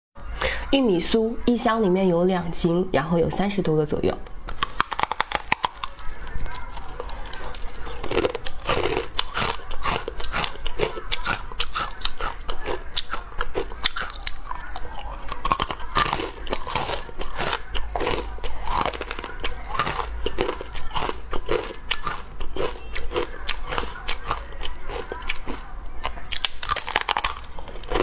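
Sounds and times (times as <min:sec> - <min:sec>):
crunchy chewing: 0:04.5 - 0:28.0.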